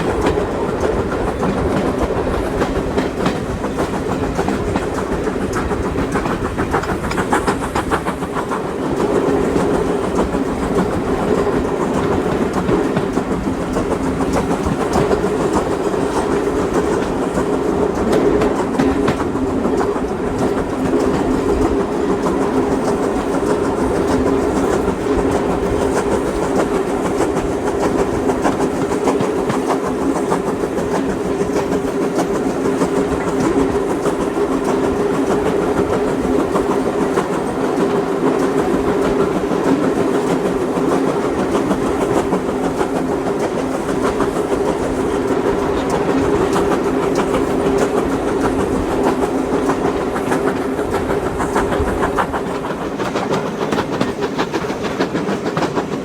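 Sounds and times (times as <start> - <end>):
train rumble and wheel clatter: 0.0 - 56.0.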